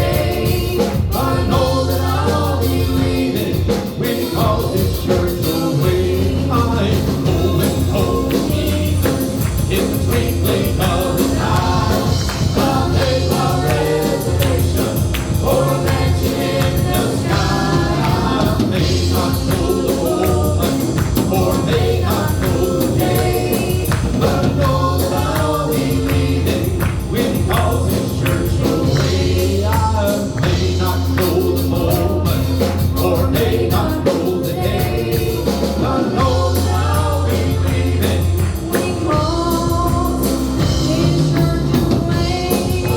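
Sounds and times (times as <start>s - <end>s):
band with steady bass and beat: 0.0s - 42.9s
vocal group singing in harmony: 0.0s - 42.9s.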